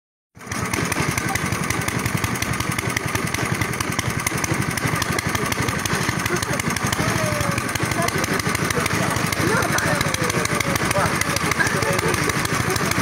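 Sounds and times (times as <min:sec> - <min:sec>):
small engine running: 0:00.4 - 0:13.0.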